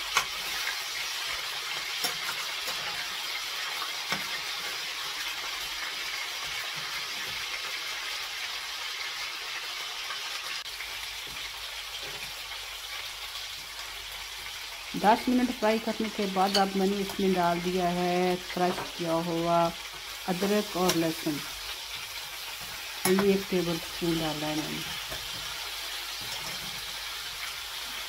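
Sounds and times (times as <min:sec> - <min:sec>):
chicken sizzling in oil: 0:00.0 - 0:28.0.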